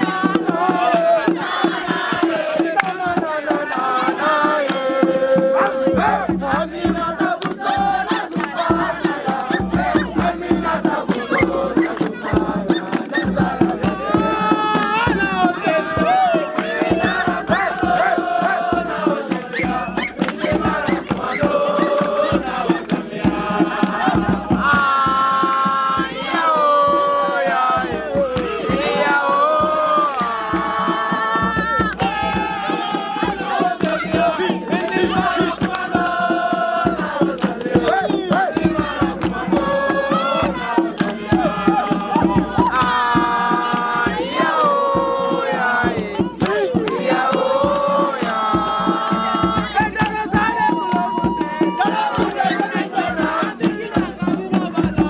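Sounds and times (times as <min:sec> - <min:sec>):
hand drum percussion: 0:00.0 - 0:55.0
voices chanting a song: 0:00.0 - 0:55.0.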